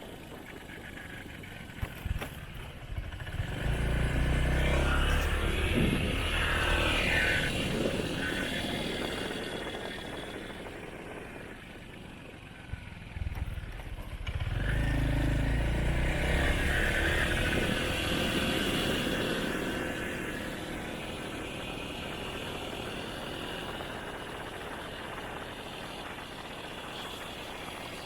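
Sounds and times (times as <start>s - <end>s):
motorcycle engine running: 0.0s - 28.0s
road and wind noise: 0.0s - 28.0s.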